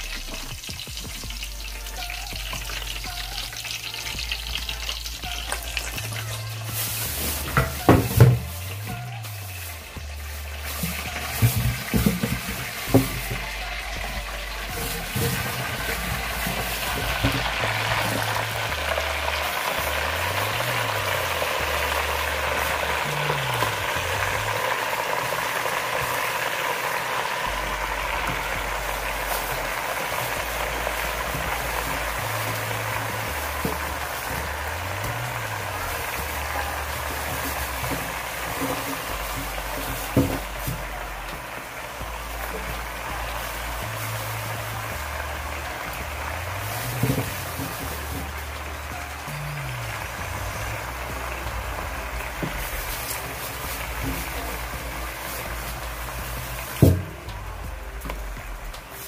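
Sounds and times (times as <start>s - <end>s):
meat sizzling in oil: 0.0s - 57.4s
music bass line: 0.0s - 59.0s.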